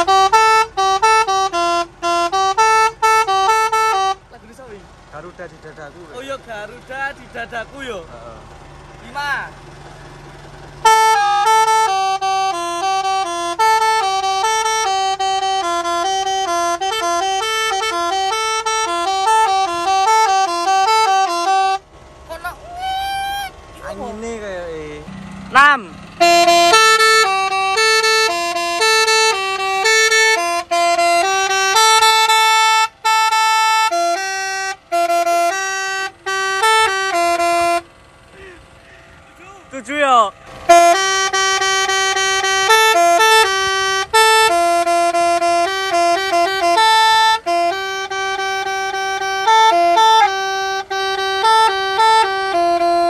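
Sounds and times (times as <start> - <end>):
truck air horns playing a melody: 0.0 - 4.7, 10.0 - 24.2, 25.0 - 39.6, 40.4 - 53.0.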